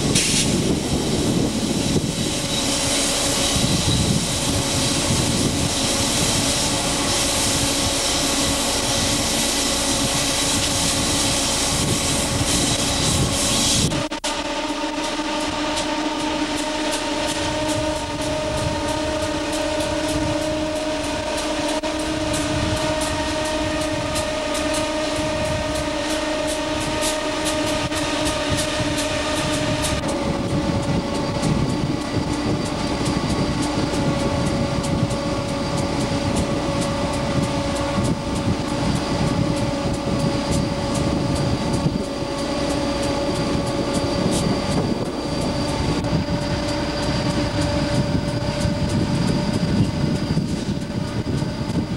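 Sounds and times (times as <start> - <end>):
electric locomotive whine: 0.0 - 51.9
wheels rumbling on rail: 0.0 - 51.9.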